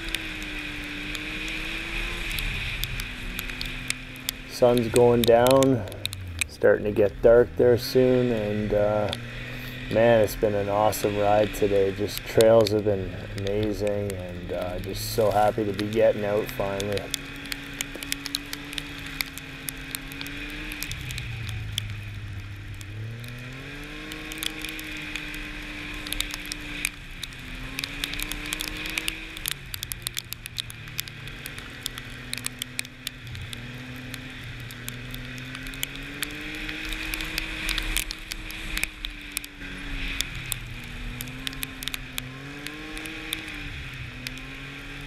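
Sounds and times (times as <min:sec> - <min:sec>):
sharp ticks and crackles: 0:00.0 - 0:45.0
snowmobile engine revving: 0:00.0 - 0:45.0.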